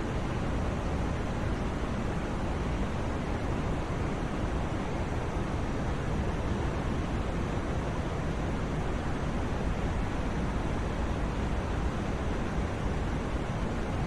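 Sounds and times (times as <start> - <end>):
white noise: 0.0 - 14.0.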